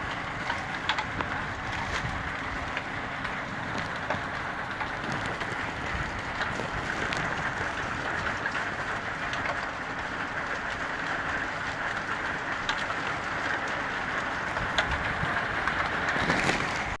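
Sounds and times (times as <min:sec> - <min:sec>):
heavy rain falling: 0:00.0 - 0:17.0
raindrops ticking on surfaces: 0:00.0 - 0:17.0.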